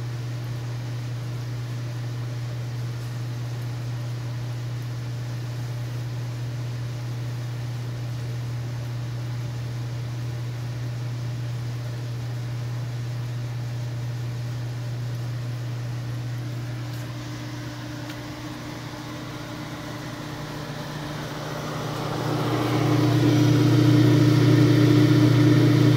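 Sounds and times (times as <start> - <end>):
oven fans humming: 0.0 - 25.9.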